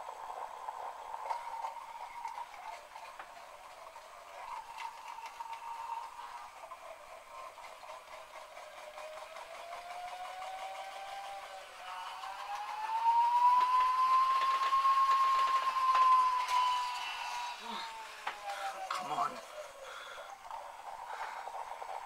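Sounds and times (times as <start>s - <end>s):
gyroscope rotor whining: 0.0s - 22.0s.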